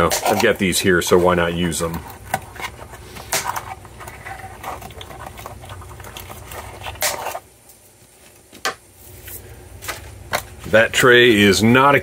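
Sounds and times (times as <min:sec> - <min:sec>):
cardboard rustling: 0:00.0 - 0:10.9.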